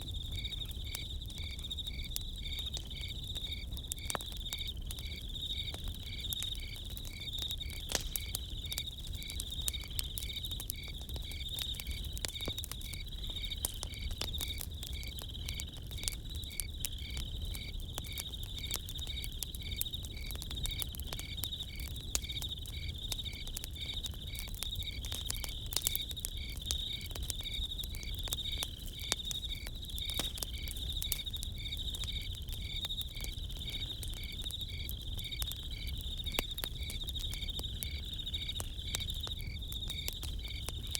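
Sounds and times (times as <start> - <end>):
campfire crackling: 0.0 - 40.9
crickets chirping: 0.0 - 40.9.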